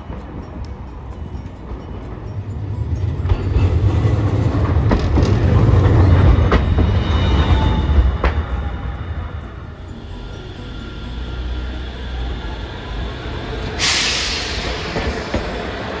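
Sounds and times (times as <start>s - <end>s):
electric tram rumbling past: 0.0s - 16.0s
wheels clacking on rails: 0.0s - 16.0s.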